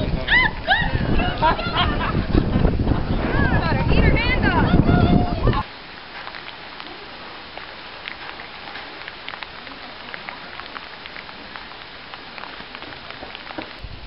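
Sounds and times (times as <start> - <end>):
rain pattering on hard surfaces: 0.0 - 14.0
wind buffeting microphone: 0.0 - 14.0.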